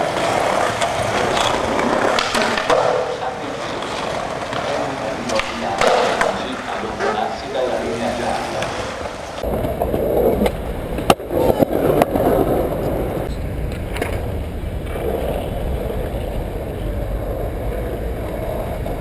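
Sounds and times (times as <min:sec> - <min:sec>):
skateboard clacks: 0:00.0 - 0:19.0
skateboard wheels rolling on stone: 0:00.0 - 0:19.0.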